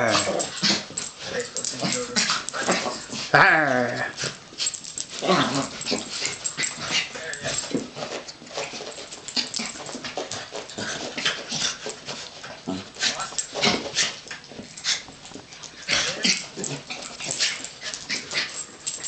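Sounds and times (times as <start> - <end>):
dogs growling and yipping: 0.0 - 19.0
dogs panting: 0.0 - 19.0
dogs scuffling: 0.0 - 19.0.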